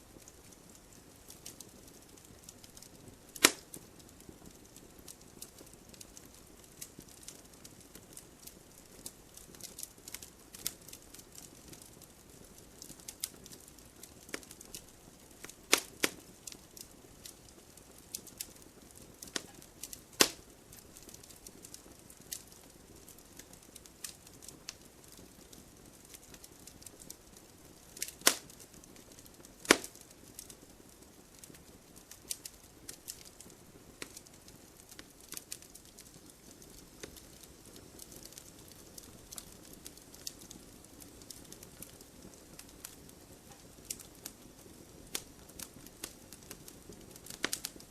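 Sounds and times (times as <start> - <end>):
faint steady hiss: 0.0 - 47.9
firewood crackling and popping: 0.0 - 47.9.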